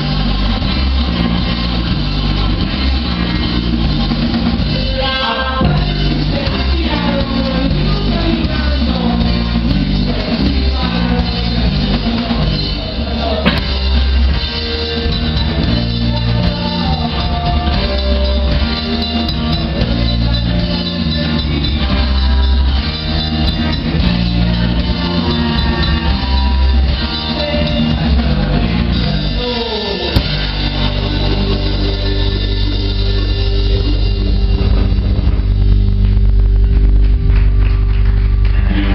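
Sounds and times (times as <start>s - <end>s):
person singing: 0.0s - 34.8s
rock band playing live: 0.0s - 38.9s.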